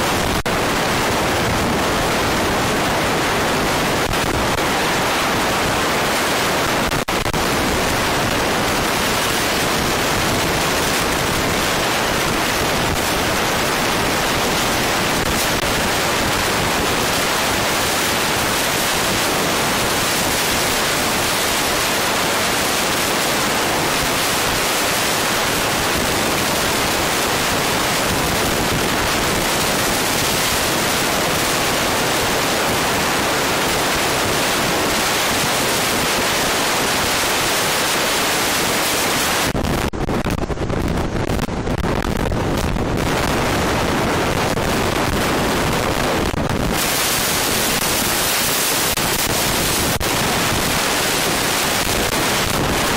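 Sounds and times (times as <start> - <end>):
wind hiss on microphone: 0.0 - 52.9.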